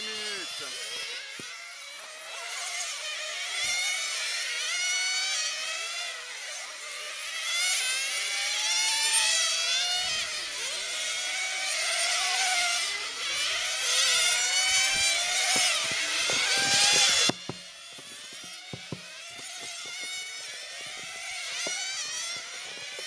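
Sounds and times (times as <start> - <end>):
model car engines whining: 0.0 - 23.0.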